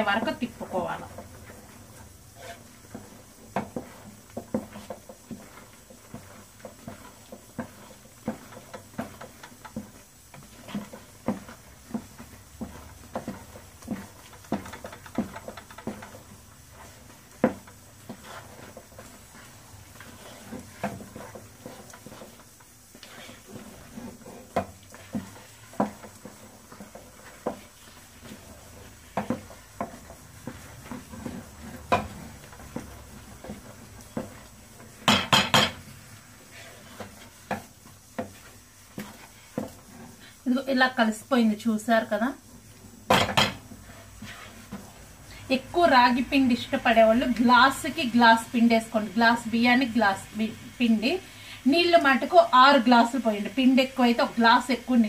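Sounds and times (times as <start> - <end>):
wooden stirrer knocking against pot: 0.0 - 40.2, 42.6 - 49.0.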